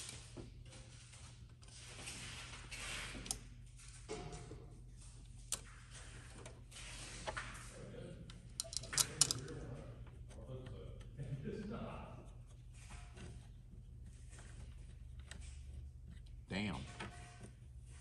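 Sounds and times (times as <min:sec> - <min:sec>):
rustling and handling noises: 0:00.0 - 0:18.0
steady low hum: 0:03.3 - 0:18.0.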